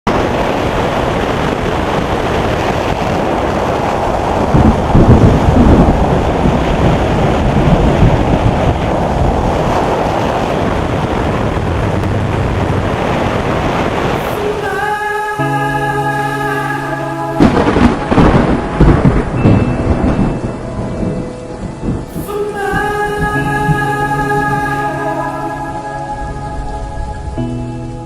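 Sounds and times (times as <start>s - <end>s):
storm wind rushing: 0.1s - 28.0s.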